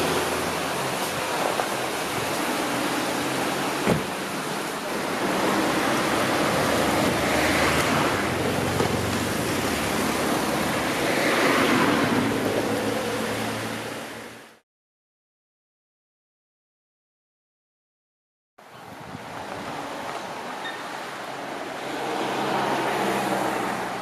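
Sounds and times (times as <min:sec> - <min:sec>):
tyre and road noise: 0:00.0 - 0:14.6, 0:18.6 - 0:24.0.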